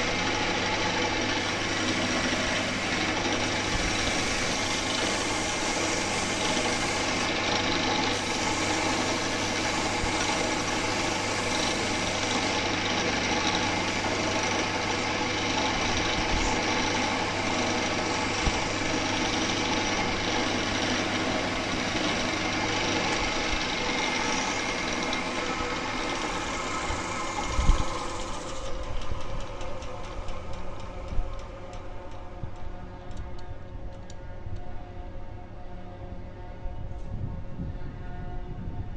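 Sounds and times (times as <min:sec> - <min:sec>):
power tool running: 0:00.0 - 0:31.9.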